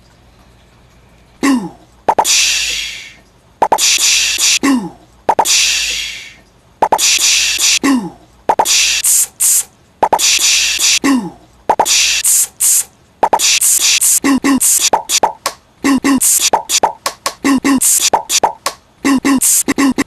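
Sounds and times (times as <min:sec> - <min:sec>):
person beatboxing: 0:01.4 - 0:20.0.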